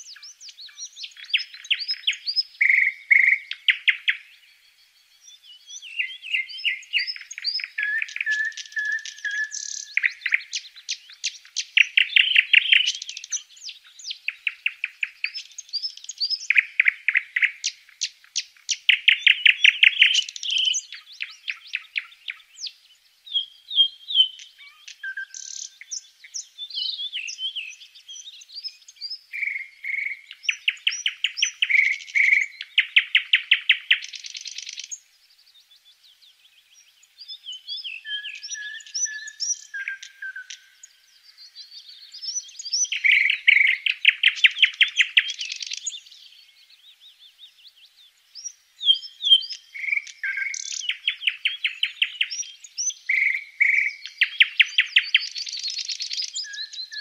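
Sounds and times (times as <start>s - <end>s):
nestlings begging with high chirps: 0.0s - 57.0s.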